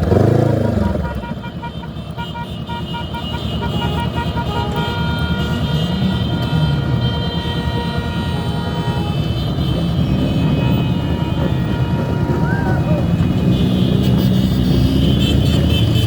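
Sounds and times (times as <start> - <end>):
motorcycle engines revving: 0.0 - 16.0
vehicle horns: 0.0 - 16.0.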